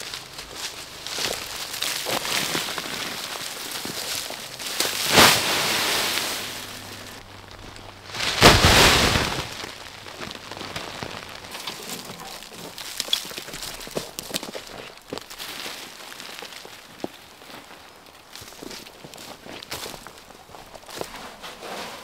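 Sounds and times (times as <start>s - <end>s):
leaves dropped onto tarpaulin: 0.0s - 22.0s
leaves rustling and crackling: 0.0s - 22.0s.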